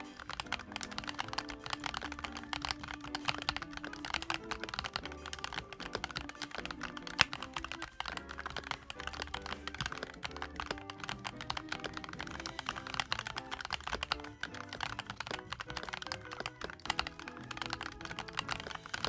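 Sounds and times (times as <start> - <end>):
background music: 0.0 - 19.0
fast mechanical keyboard typing: 0.0 - 19.0.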